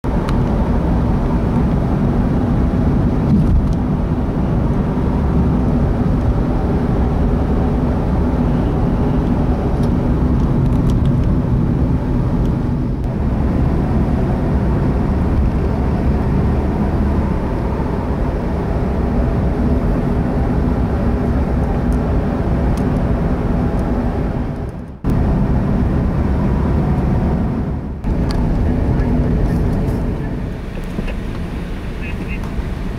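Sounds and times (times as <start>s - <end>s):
car engine and tyre rumble: 0.0s - 32.9s.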